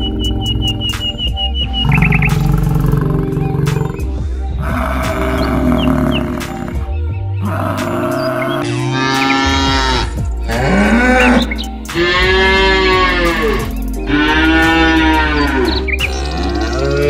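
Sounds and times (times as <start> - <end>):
water buffalo mooing: 1.8 - 17.0.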